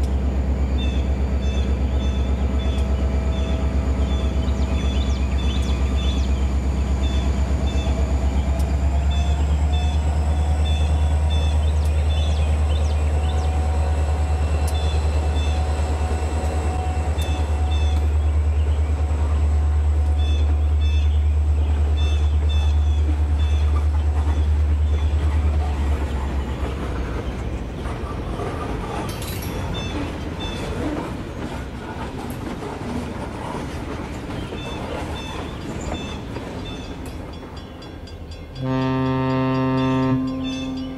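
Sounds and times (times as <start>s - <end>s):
train wheels clicking on rail joints: 0.0s - 40.9s.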